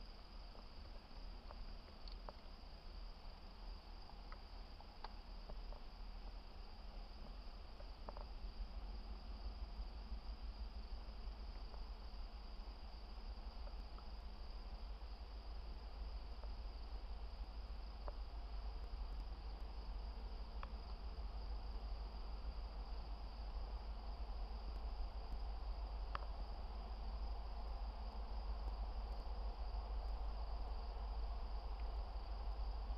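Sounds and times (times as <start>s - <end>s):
insects chorus: 0.0s - 32.9s.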